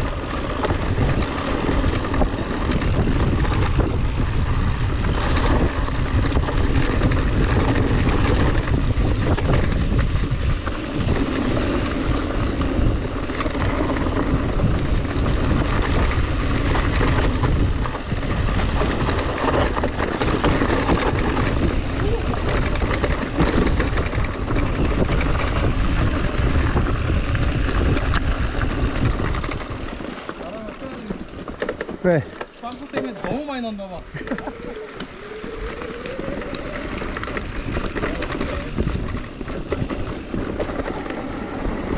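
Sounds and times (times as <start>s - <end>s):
bike tyre and frame rattle: 0.0s - 41.9s
wind buffeting microphone: 0.0s - 41.9s.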